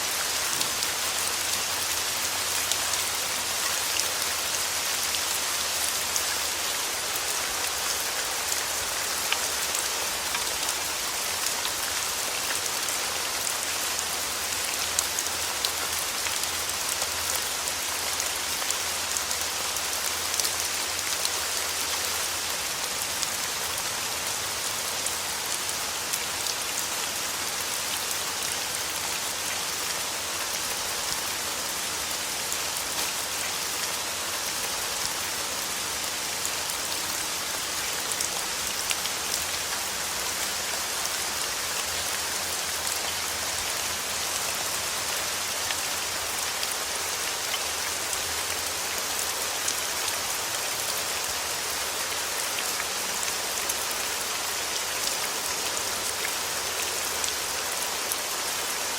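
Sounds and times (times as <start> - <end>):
rain falling on a surface: 0.0 - 58.9.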